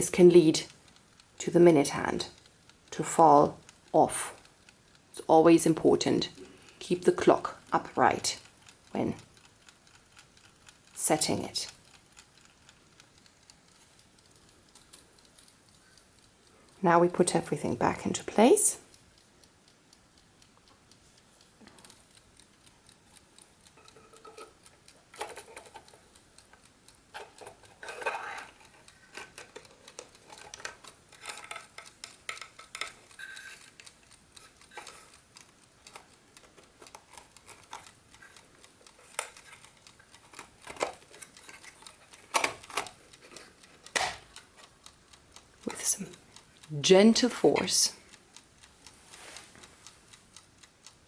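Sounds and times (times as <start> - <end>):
wooden clock parts clicking: 0.0 - 51.0.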